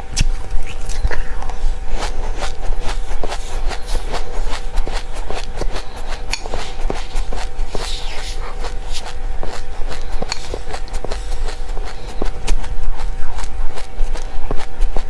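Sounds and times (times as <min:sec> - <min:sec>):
faint steady hum: 0:00.0 - 0:15.0
crunching dry seeds: 0:00.8 - 0:15.0.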